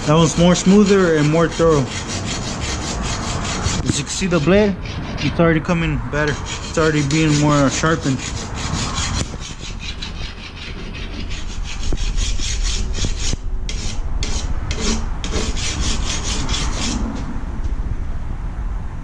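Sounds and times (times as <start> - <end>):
hand file rasping on steel blade: 0.0 - 5.5, 6.2 - 17.2.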